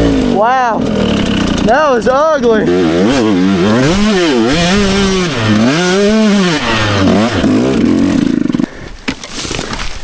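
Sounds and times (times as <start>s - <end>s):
dirt bike engine revving: 0.0s - 9.6s.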